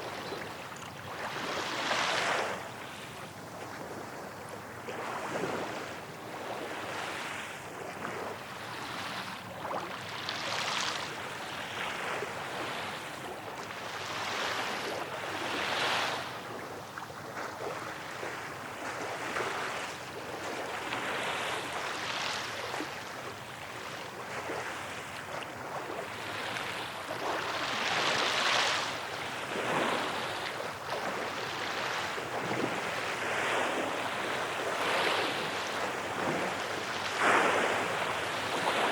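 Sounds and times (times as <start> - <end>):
small waves washing ashore: 0.0 - 38.9.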